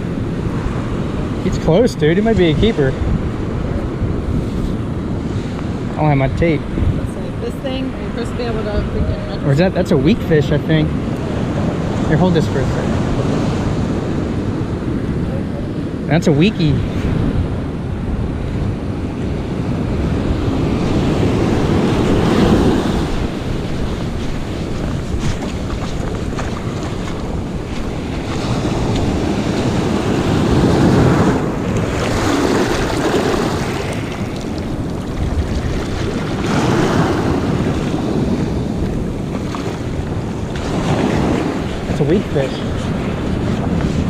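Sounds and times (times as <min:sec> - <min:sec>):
ocean surf breaking: 0:00.0 - 0:44.0
wind rumbling on microphone: 0:00.0 - 0:44.0.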